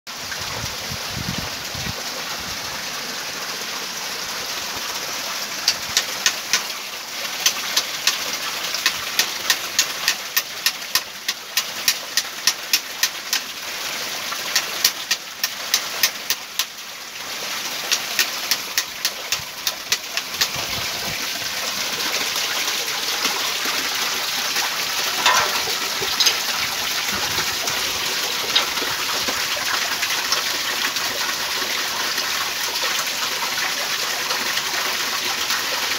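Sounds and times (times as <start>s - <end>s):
water gushing through watermill: 0.1s - 35.9s.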